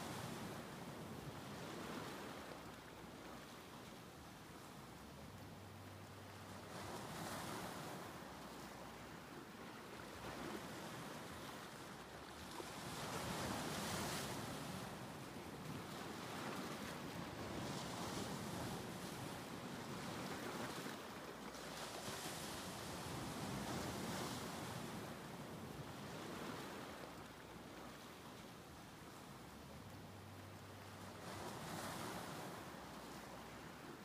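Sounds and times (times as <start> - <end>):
small waves breaking on shore: 0.0 - 34.0
wind: 0.0 - 34.0.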